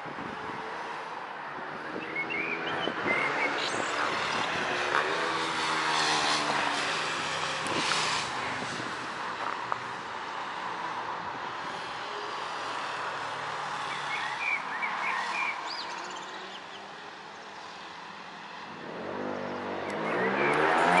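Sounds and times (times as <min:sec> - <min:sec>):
steady traffic noise: 0:00.0 - 0:21.0.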